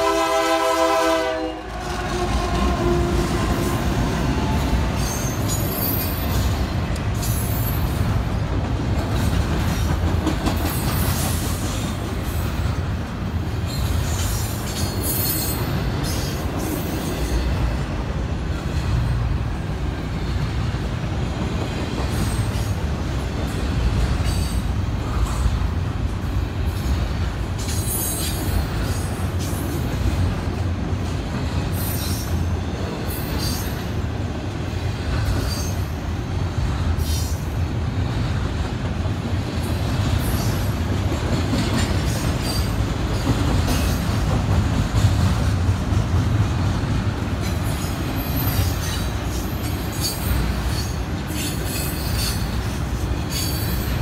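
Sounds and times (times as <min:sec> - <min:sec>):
freight train rumbling on rails: 0:00.0 - 0:54.0.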